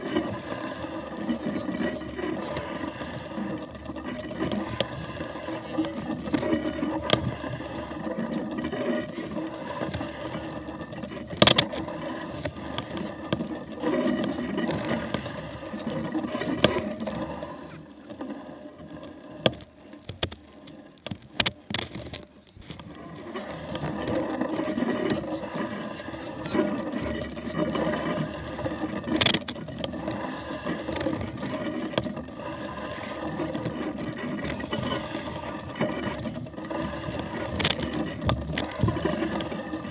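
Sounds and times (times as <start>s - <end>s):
bike rattling rumble: 0.0s - 18.1s, 21.0s - 39.9s
sharp knocks and clicks: 0.0s - 18.4s, 19.0s - 39.9s.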